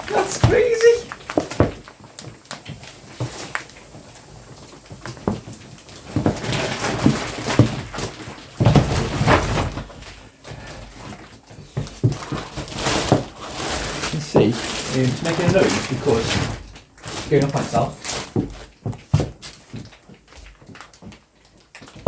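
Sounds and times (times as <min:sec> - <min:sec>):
mattress crackling and creaking: 0:00.0 - 0:22.0.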